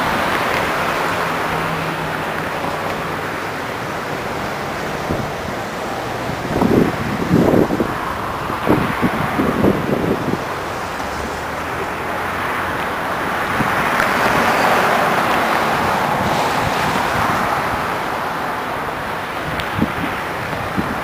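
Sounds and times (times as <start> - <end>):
river water spilling over dam: 0.0 - 21.0
vehicle tyre noise passing: 0.0 - 21.0.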